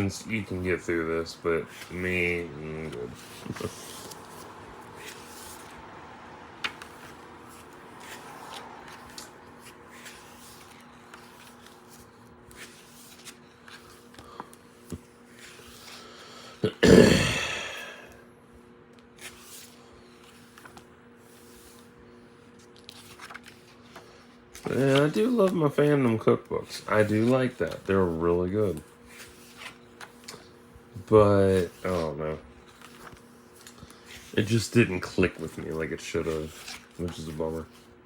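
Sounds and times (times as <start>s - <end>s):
book pages turning: 0.0s - 16.3s, 18.9s - 38.0s
faint steady hum: 0.0s - 38.0s.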